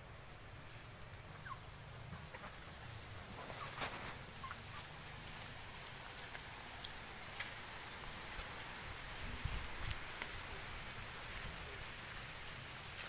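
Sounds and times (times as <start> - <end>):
steady high hiss: 0.0 - 13.0
chickens calling: 1.3 - 13.0.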